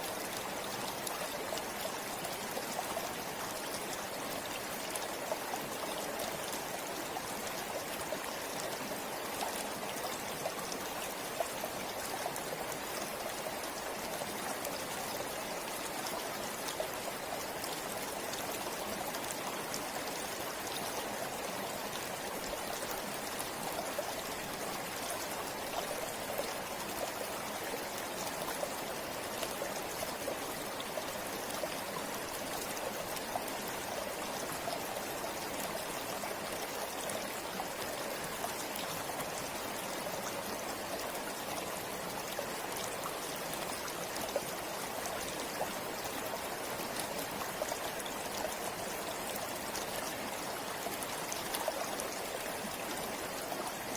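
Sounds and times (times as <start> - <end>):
river flowing over stones: 0.0 - 53.9.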